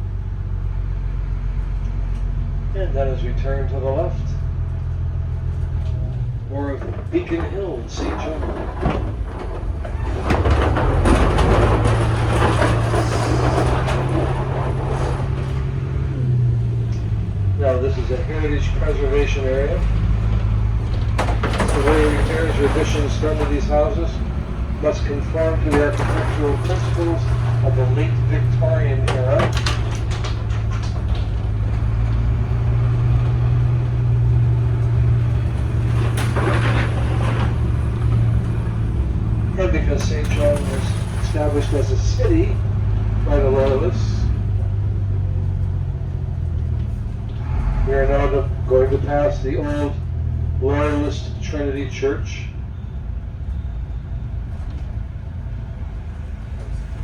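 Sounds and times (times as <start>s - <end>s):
bus engine hum: 0.0s - 57.0s
road rumble: 0.0s - 57.0s
rattles: 1.8s - 57.0s.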